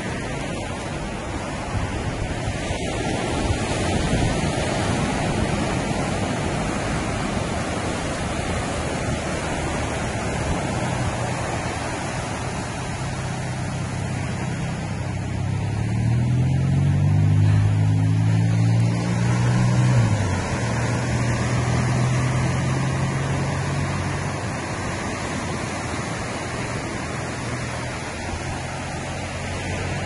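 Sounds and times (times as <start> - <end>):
low engine hum: 0.0 - 30.0
waves at the shore: 0.0 - 30.0
wind: 0.0 - 30.0.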